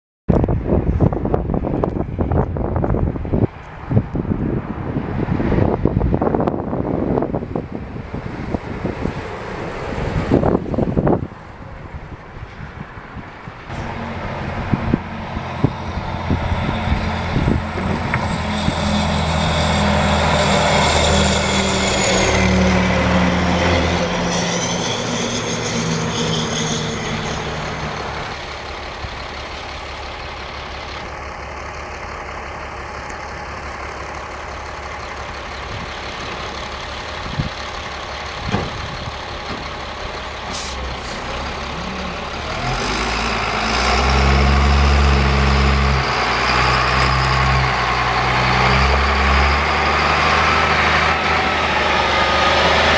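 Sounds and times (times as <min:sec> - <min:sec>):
dump truck diesel engine running: 0:05.6 - 0:52.9.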